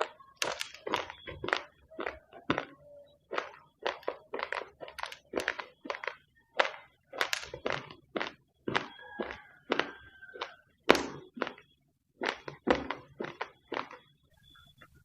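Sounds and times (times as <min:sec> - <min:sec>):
rice grains being chewed: 0:00.0 - 0:14.2.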